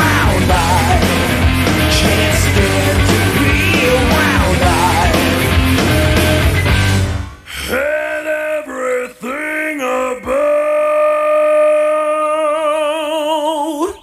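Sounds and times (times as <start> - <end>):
person singing rock vocals: 0.0 - 14.0.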